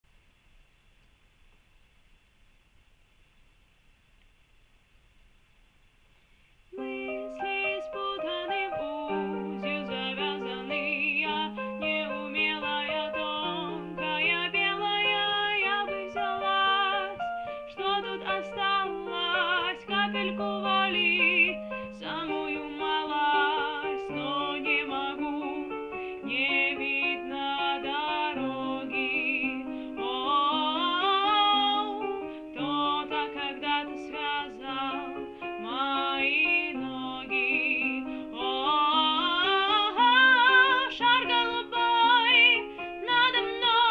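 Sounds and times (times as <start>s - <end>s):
woman singing worship song: 6.8s - 43.9s.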